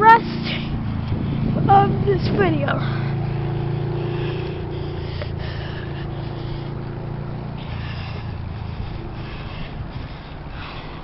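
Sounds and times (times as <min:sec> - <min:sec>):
steady rushing noise: 0:00.0 - 0:11.0
vehicle engine humming: 0:00.0 - 0:11.0.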